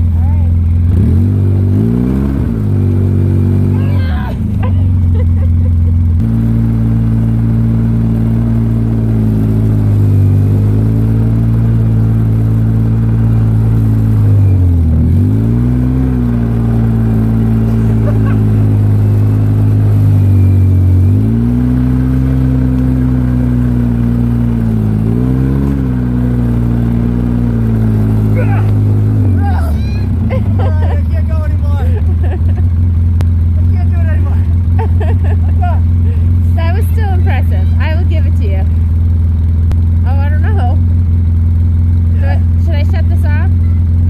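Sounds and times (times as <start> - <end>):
vehicle engine under load: 0.0 - 44.0.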